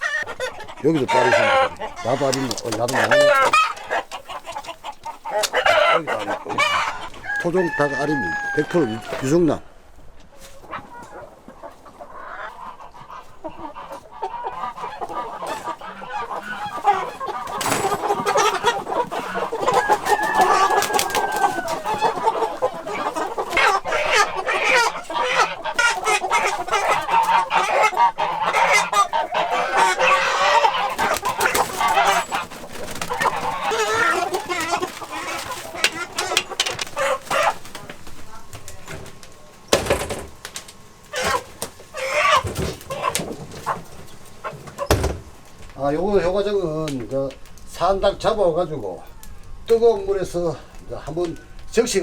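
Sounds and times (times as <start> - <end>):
chickens clucking and squawking: 0.0 - 52.0.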